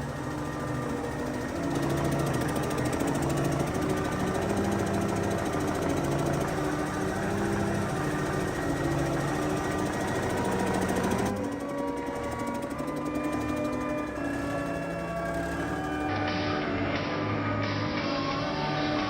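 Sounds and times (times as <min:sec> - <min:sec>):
diesel engine clattering: 0:00.0 - 0:16.1
background music: 0:00.0 - 0:19.0.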